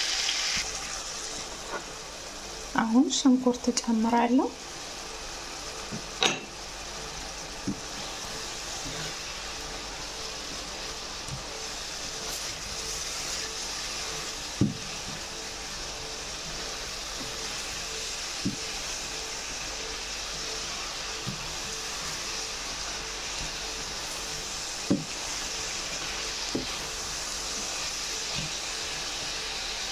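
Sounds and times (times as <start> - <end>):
meat and onions sizzling in pan: 0.0 - 29.9.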